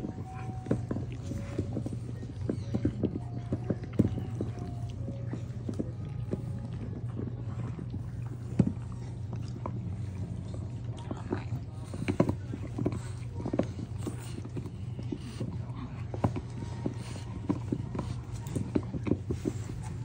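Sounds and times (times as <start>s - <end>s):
dog gnawing a chew stick: 0.0s - 20.0s
low steady hum: 0.0s - 20.0s.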